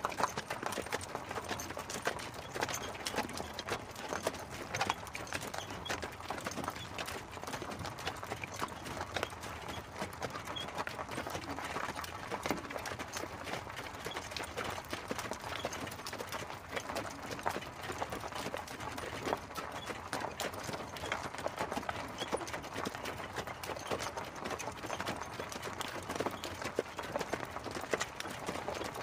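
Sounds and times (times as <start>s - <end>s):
horse hooves clip-clopping: 0.0s - 29.0s.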